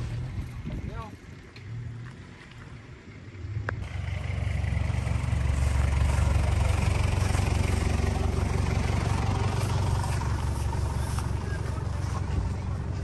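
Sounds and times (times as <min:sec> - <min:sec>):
car engine idling: 0:01.7 - 0:13.0.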